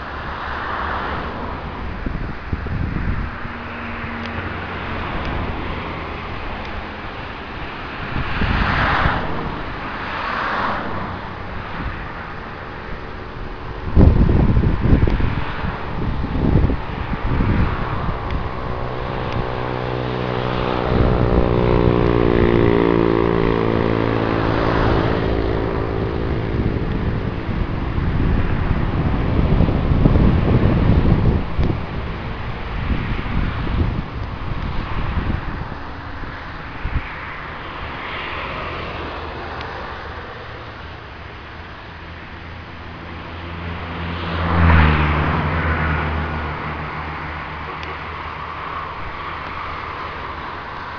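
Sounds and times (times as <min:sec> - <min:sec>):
jet engines whining at high power: 0:00.0 - 0:50.9
wind buffeting microphone: 0:00.0 - 0:50.9.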